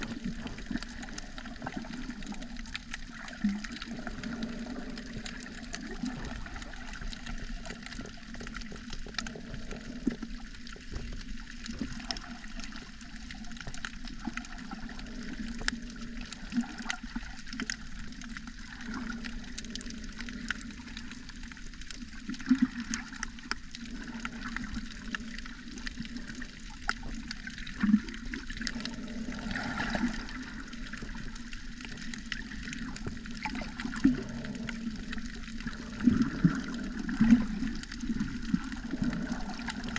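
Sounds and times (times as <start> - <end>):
muffled underwater rush: 0.0 - 39.9
small sharp underwater clicks: 0.0 - 39.9.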